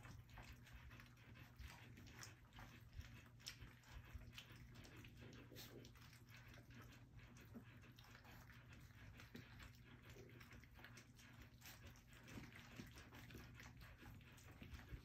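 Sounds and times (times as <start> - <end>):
low steady hum: 0.0 - 15.0
puppies lapping from metal bowl: 0.0 - 15.0.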